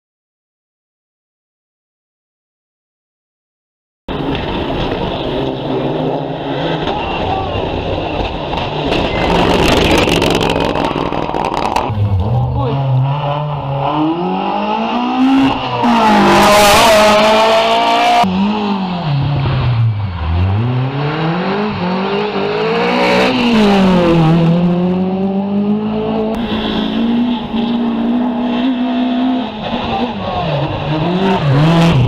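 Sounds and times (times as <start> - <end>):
rally car engines revving: 4.1 - 32.0.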